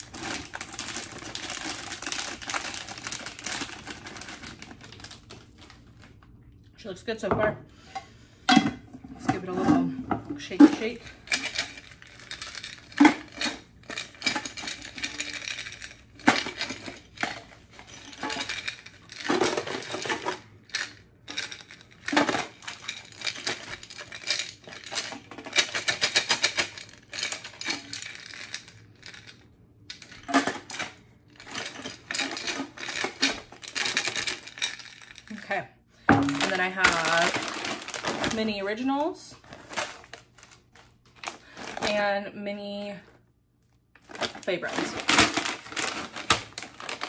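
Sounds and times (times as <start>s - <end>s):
candies rattling in jar: 0.0s - 6.2s, 9.2s - 43.2s, 44.0s - 47.0s.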